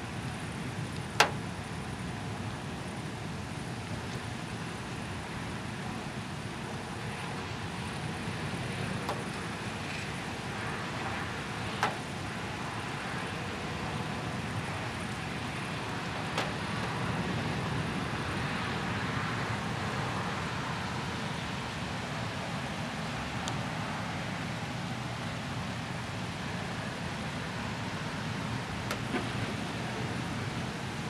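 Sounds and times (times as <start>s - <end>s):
low rumbling outdoor noise: 0.0s - 31.0s.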